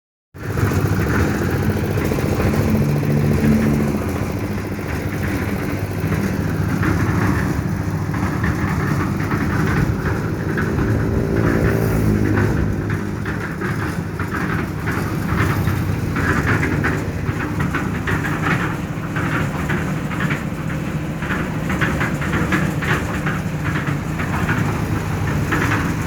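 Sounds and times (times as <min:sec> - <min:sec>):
concrete mixer engine running: 0:00.4 - 0:26.0.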